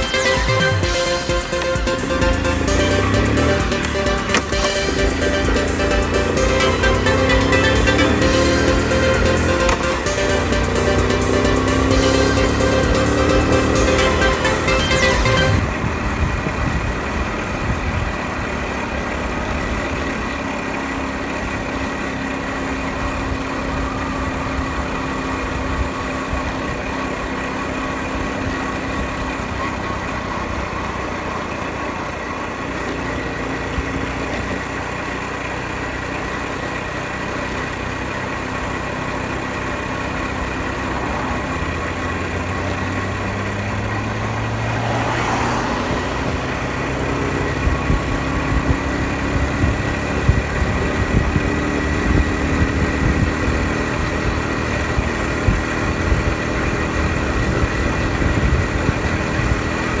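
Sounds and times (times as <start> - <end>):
small motorcycle engine running: 0.0 - 60.0
wind and road noise: 0.0 - 60.0.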